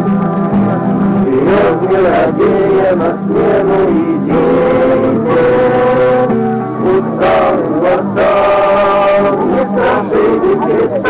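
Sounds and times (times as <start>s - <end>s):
steady low tone: 0.1s - 11.0s
group singing religious chant: 1.2s - 11.0s.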